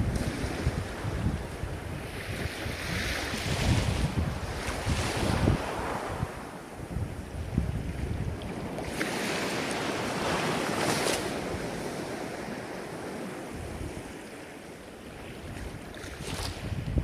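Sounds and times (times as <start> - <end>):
ocean waves washing ashore: 0.0 - 17.0
wind rumble on microphone: 0.0 - 17.0.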